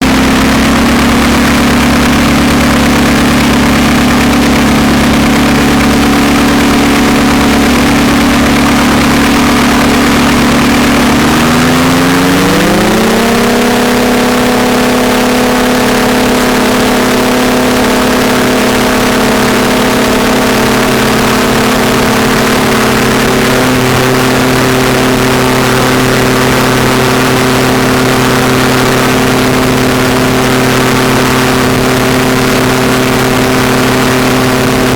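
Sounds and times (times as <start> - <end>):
light aircraft engine running: 0.0 - 34.9.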